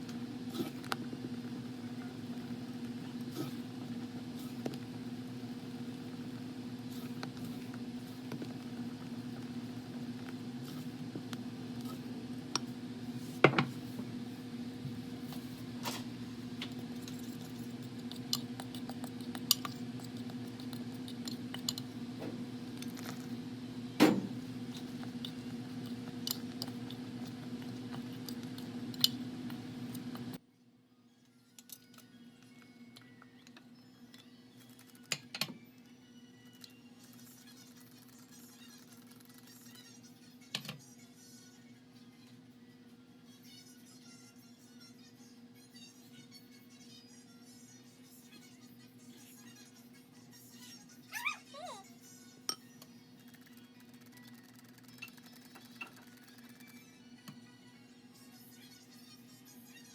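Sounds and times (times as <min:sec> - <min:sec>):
low electric motor hum: 0:00.0 - 0:51.1.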